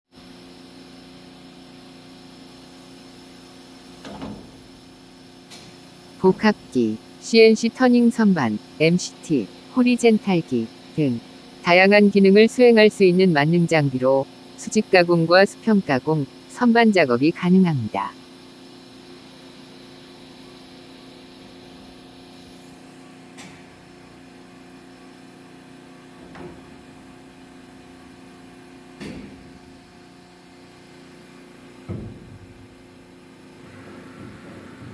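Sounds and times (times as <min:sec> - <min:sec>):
machinery hum: 0:00.2 - 0:34.9.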